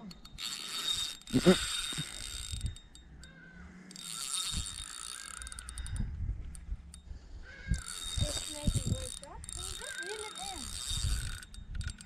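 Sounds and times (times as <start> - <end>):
fishing reel gears whirring: 0.0 - 12.0
reel clicking: 0.0 - 12.0.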